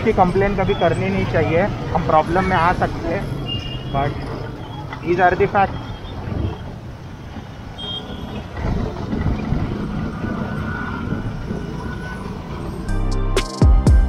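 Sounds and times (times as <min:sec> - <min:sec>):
scooter engine and road rumble: 0:00.0 - 0:13.3.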